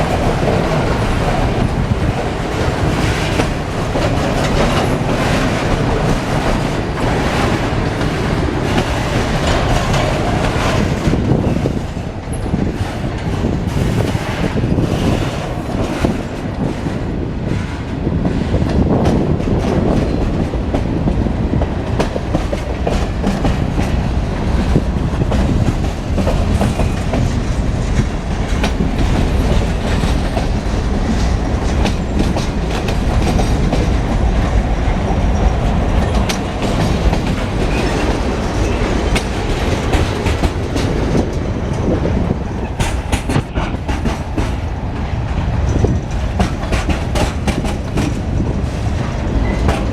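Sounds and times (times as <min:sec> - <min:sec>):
freight train rolling past: 0:00.0 - 0:49.9
wheels clicking over rail joints: 0:00.0 - 0:49.9.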